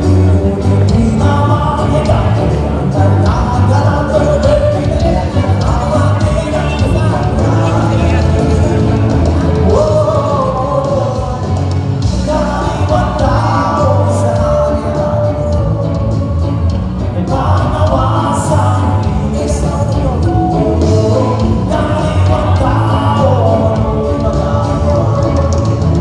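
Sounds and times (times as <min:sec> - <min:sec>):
heavy bass line: 0:00.0 - 0:26.0
person singing: 0:00.0 - 0:26.0.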